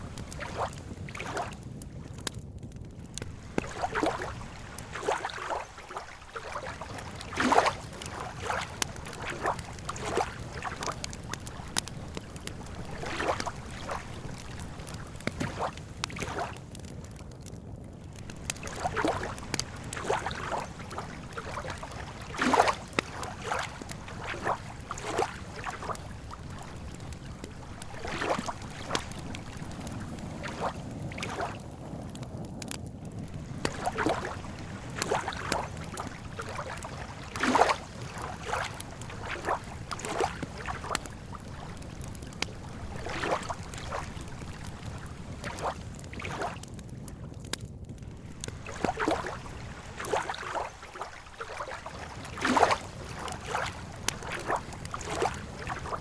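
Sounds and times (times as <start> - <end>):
lake waves lapping at shore: 0.0 - 2.4, 3.1 - 17.2, 18.0 - 46.7, 48.1 - 56.0
campfire crackling and popping: 0.0 - 56.0.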